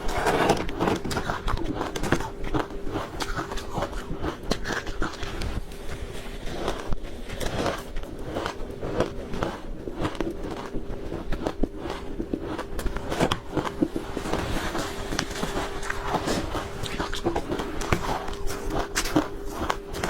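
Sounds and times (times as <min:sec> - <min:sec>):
faint steady hum: 0:00.0 - 0:20.0
ice being chewed: 0:00.0 - 0:20.0.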